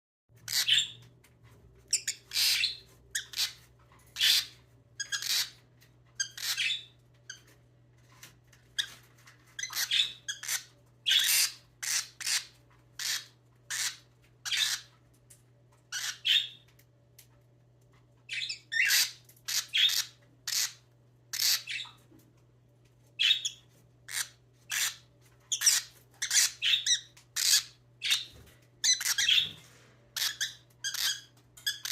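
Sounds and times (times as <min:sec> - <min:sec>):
lovebirds chirping and squawking: 0:00.3 - 0:17.3, 0:17.9 - 0:22.2, 0:23.0 - 0:31.9.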